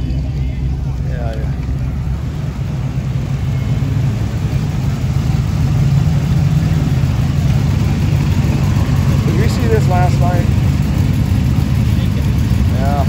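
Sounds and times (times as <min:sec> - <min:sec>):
car engine rumbling past: 0:00.0 - 0:13.0.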